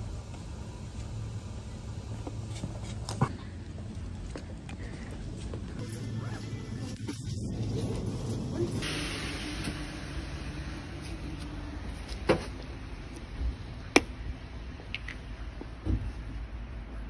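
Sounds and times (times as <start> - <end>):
street background rumble: 0.0 - 17.0.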